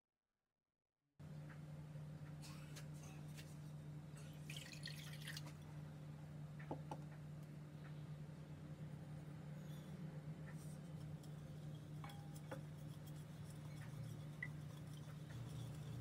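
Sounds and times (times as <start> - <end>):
steady low hum: 1.2 - 16.0.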